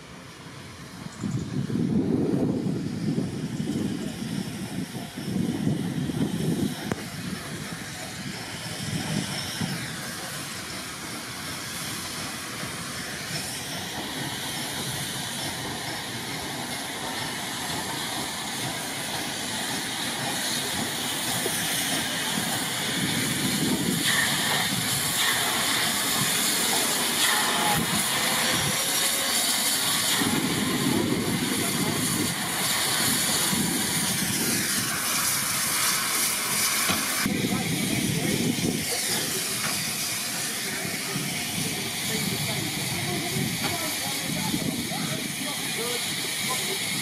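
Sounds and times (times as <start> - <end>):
hiss of escaping steam: 0.0 - 47.0
steam locomotive running slowly: 0.0 - 47.0.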